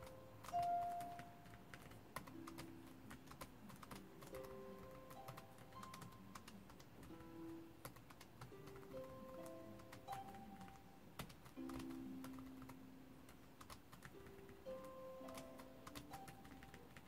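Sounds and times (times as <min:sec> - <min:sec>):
soft background music: 0:00.0 - 0:17.0
typing on laptop keyboard: 0:00.0 - 0:17.0.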